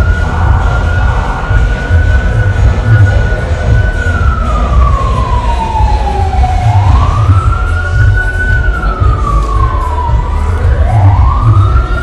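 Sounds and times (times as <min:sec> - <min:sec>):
low rumble: 0:00.0 - 0:12.0
siren wailing: 0:00.0 - 0:12.0.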